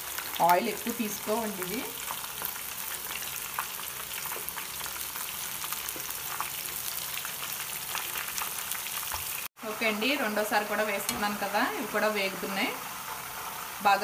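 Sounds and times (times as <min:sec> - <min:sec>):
oil sizzling and crackling: 0:00.0 - 0:14.0.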